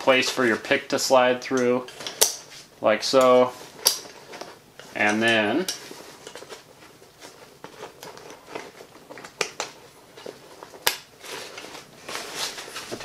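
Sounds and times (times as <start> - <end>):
strap and fabric rustling: 1.7 - 13.0.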